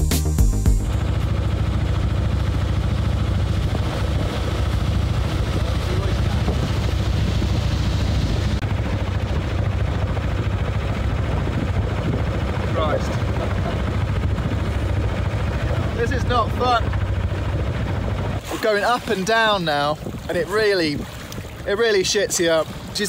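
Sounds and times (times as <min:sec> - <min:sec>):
boat engine rumbling: 0:00.0 - 0:23.0
water noise: 0:00.8 - 0:23.0
wind on microphone: 0:02.6 - 0:23.0.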